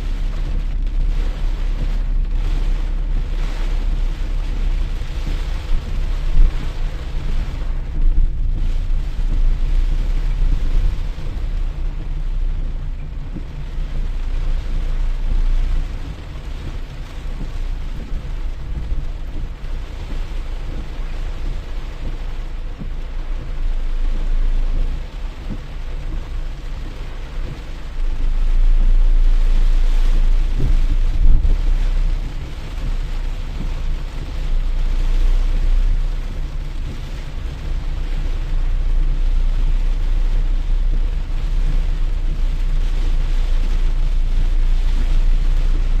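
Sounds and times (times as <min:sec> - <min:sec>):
deep rumble: 0:00.0 - 0:46.0
steady rainfall: 0:00.0 - 0:46.0.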